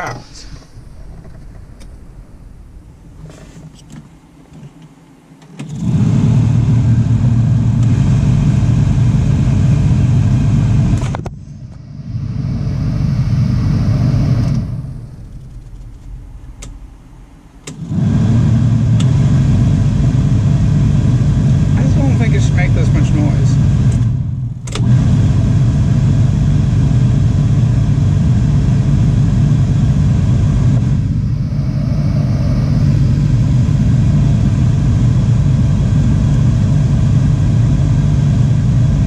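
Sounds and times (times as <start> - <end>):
heater blower motor humming: 0.0 - 39.0.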